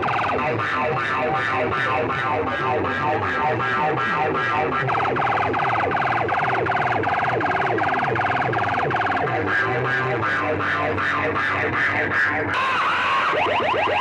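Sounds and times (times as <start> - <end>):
dj music over loudspeakers: 0.0 - 14.0
pulsing siren-like effect: 0.0 - 14.0.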